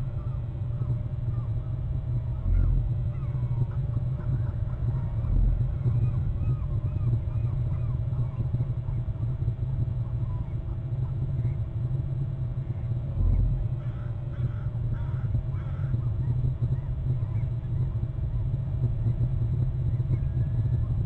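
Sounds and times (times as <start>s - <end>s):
low rumble on microphone: 0.0s - 21.0s.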